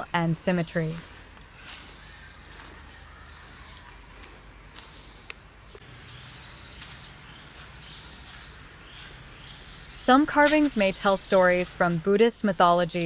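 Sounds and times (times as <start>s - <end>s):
insects droning: 0.0s - 13.0s
outdoor background noise: 0.0s - 13.0s.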